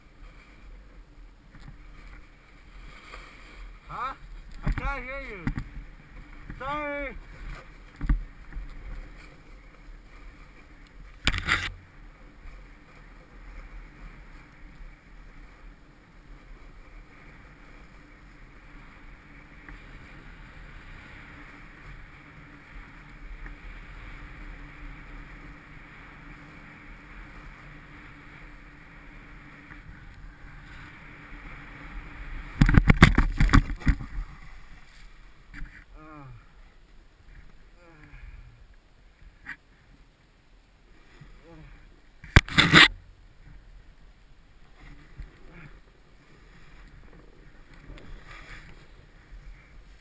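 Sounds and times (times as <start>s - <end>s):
snowboard scraping over snow: 0.0s - 35.6s, 44.6s - 50.0s.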